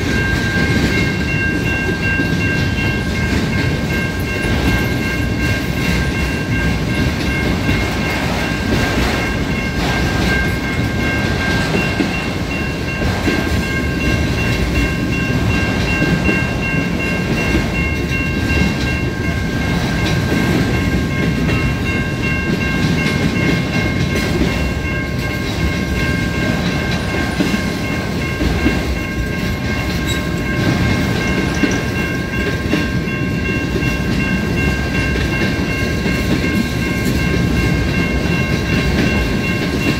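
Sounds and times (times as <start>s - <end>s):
high ringing tones: 0.0s - 39.9s
train rumbling past on rails: 0.0s - 39.9s.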